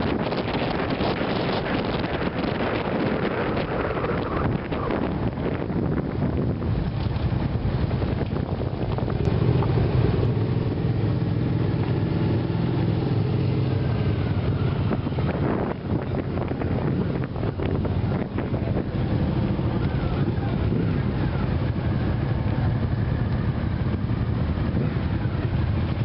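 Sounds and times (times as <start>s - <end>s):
motorcycle engine running: 0.0s - 26.0s
wind noise on microphone: 0.0s - 26.0s.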